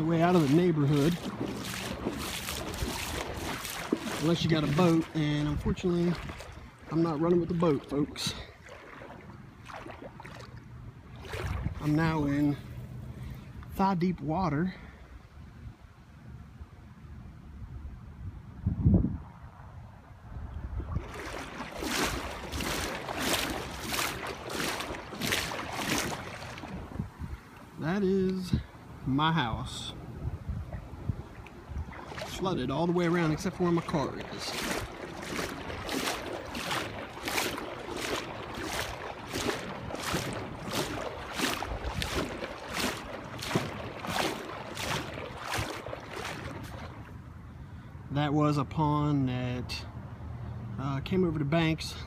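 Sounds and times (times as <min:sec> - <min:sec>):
wading through floodwater: 0:00.0 - 0:17.4, 0:19.6 - 0:52.0.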